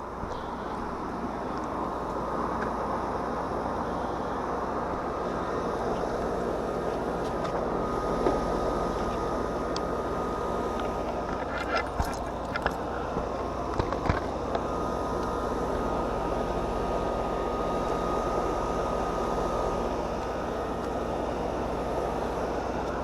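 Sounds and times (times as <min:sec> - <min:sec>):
air conditioning unit humming: 0:00.0 - 0:23.0.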